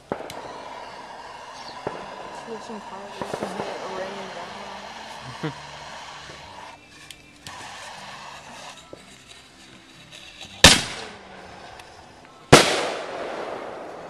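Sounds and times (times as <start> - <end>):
aerial fireworks bursting: 0.0 - 14.0.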